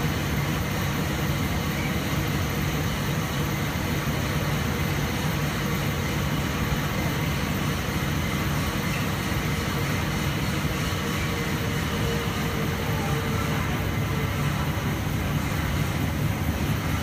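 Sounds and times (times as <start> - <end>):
printing machine running: 0.0 - 17.0.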